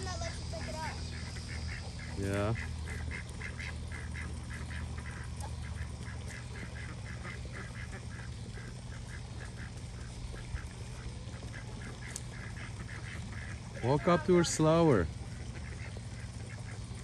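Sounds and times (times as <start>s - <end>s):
ducks quacking softly: 0.0s - 17.0s
low steady rumble: 0.0s - 17.0s.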